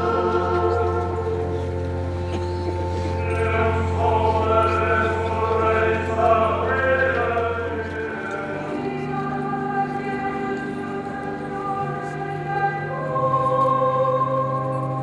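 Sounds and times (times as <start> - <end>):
choir singing: 0.0 - 1.7, 3.2 - 15.0.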